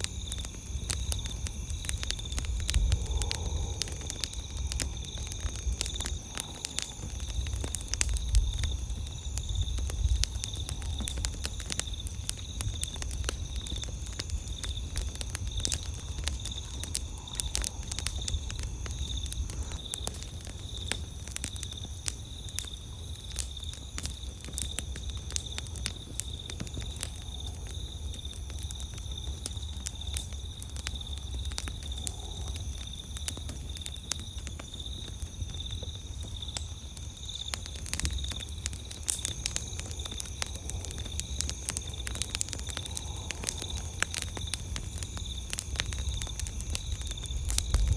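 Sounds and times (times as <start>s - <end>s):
campfire crackling and popping: 0.0s - 47.9s
crickets chirping: 0.0s - 47.9s.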